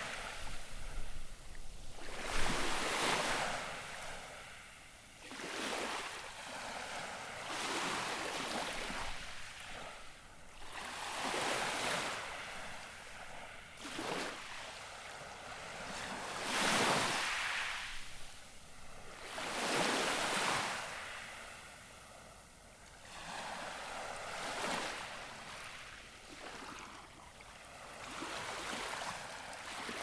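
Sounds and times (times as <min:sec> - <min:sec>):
gentle waves lapping on shore: 0:00.0 - 0:30.0.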